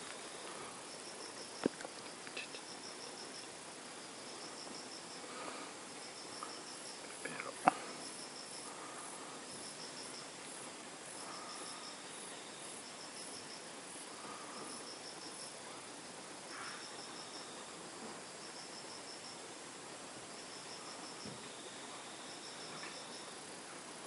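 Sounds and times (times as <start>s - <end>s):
insects chirping in trills: 0.0s - 24.0s.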